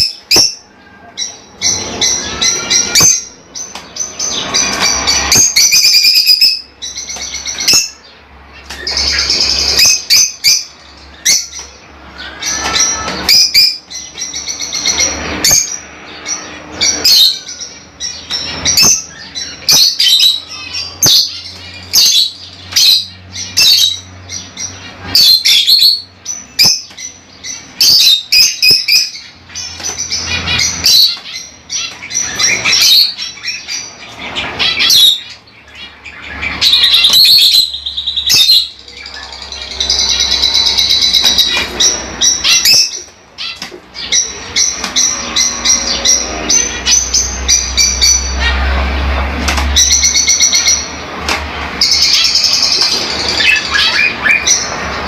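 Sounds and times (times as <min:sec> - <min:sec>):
lovebirds chirping and screeching: 0:00.0 - 0:55.0.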